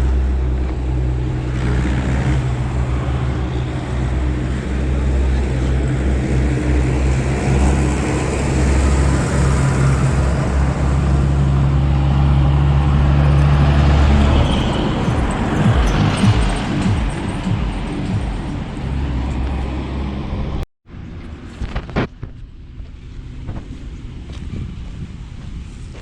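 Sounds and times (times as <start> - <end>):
heavy vehicle engine humming: 0.0 - 26.0
road traffic noise: 0.0 - 26.0.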